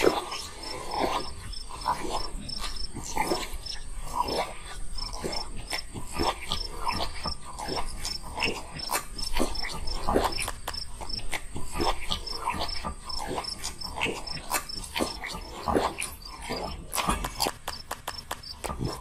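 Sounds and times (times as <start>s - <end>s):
faint insect chirping: 0.4s - 5.8s, 6.4s - 16.7s.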